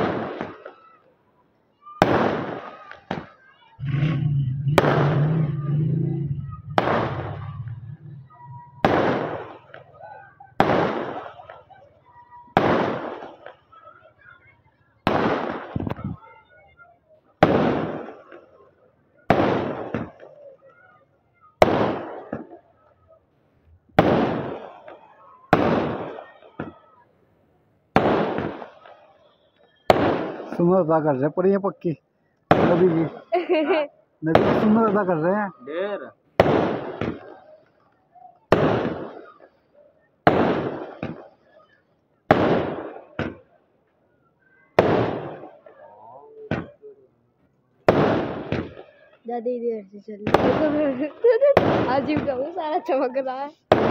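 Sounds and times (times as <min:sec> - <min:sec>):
fireworks bursting with bangs: 0:00.0 - 0:01.1, 0:01.7 - 0:22.9, 0:23.9 - 0:27.0, 0:27.9 - 0:31.6, 0:32.4 - 0:43.7, 0:44.4 - 0:47.0, 0:47.8 - 0:53.9.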